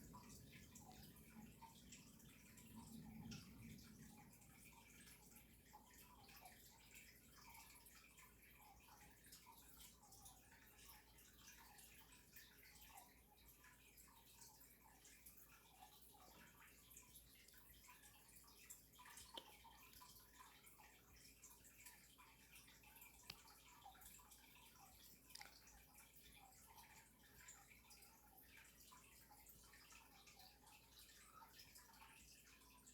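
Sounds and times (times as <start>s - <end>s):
faint dripping water: 0.0s - 32.9s.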